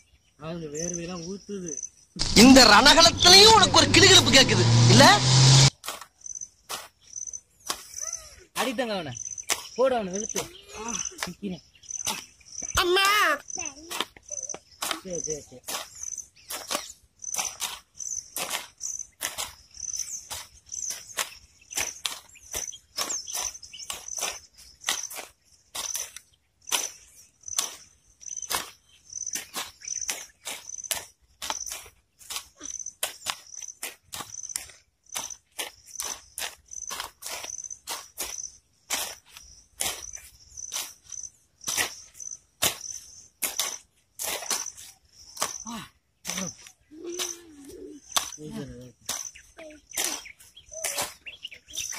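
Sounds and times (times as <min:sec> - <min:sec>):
high insect chirps: 0:00.0 - 0:51.9
hand hoes chopping soil: 0:02.2 - 0:51.9.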